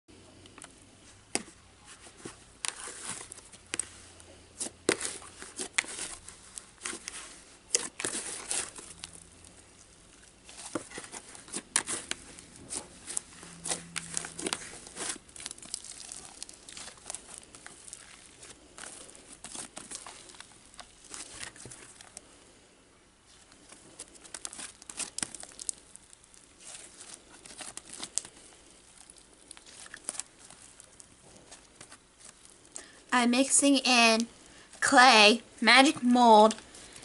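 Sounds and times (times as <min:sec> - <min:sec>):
slime squelching: 0:00.4 - 0:22.6, 0:23.2 - 0:37.0.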